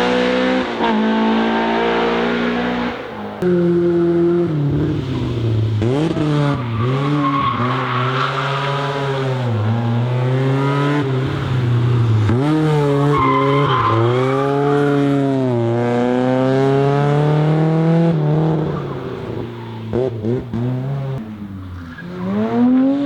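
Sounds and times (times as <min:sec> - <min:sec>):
car engine revving hard: 0:00.0 - 0:21.2.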